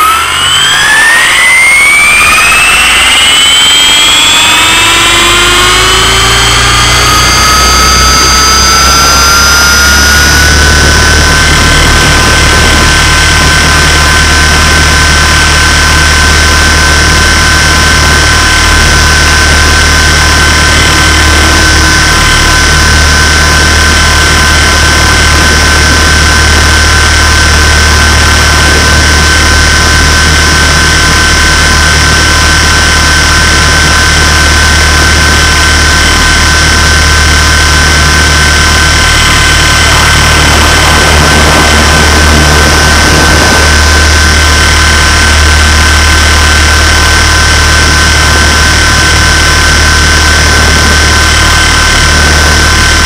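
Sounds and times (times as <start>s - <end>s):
low rotor hum: 0.0s - 53.0s
rc helicopter motor whine: 0.0s - 53.0s.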